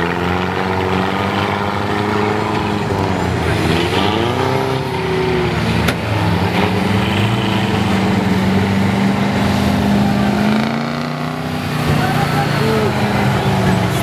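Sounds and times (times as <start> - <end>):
water splashing from wheels: 0.8 - 14.0.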